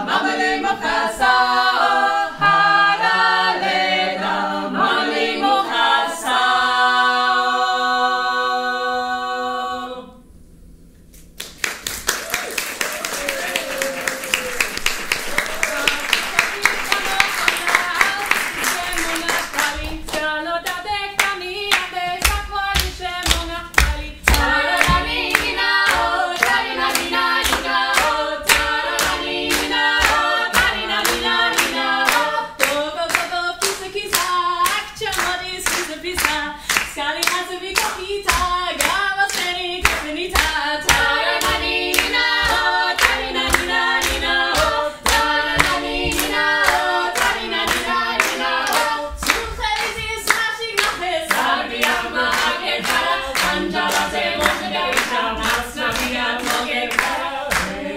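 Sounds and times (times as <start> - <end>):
group singing in parts: 0.0 - 10.2, 13.4 - 57.9
rhythmic hand clapping: 11.2 - 57.9.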